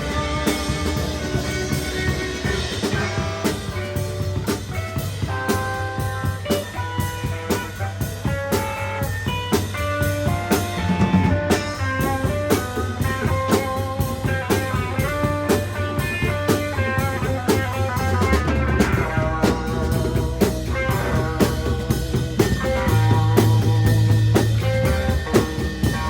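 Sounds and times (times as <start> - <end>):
busy drum beat: 0.0 - 26.0
electric guitar notes: 0.0 - 26.0
rock band playing: 0.0 - 26.0.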